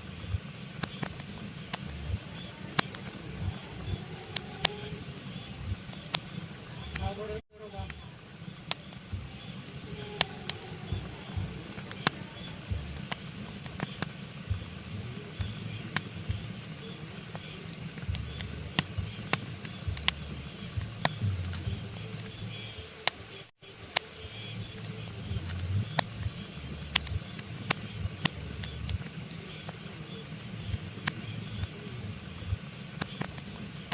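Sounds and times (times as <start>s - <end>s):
fire popping: 0.0s - 33.9s
hiss and rumble of flames: 0.0s - 33.9s
logs crackling in fireplace: 0.0s - 33.9s.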